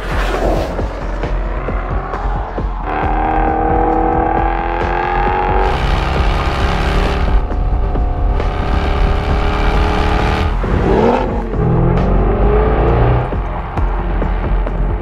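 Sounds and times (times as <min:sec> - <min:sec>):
car engine revving loud: 0:00.4 - 0:14.8.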